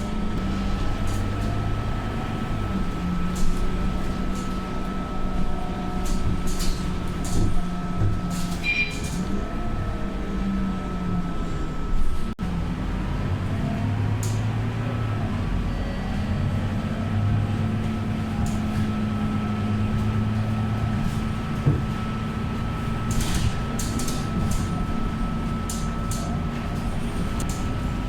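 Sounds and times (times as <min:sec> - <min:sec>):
bus diesel engine drone: 0:00.0 - 0:28.0.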